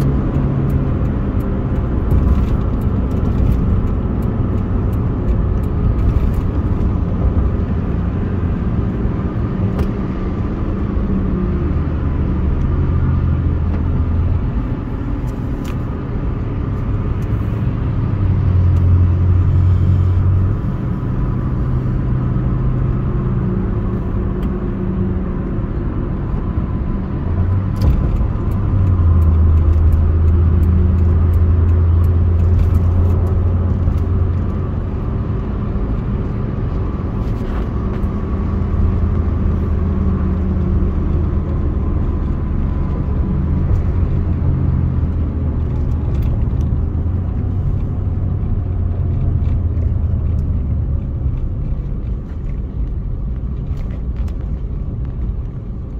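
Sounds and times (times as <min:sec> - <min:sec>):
car road noise hum: 0:00.0 - 0:55.9.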